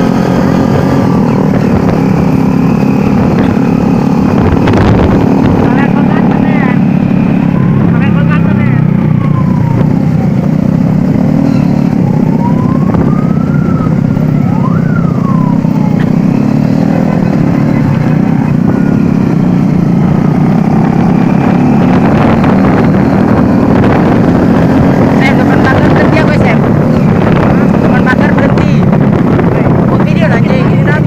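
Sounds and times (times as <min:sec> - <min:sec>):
rising and falling pitch glides: 0:00.0 - 0:10.5, 0:11.4 - 0:28.6
motorcycle engines running: 0:00.0 - 0:31.0.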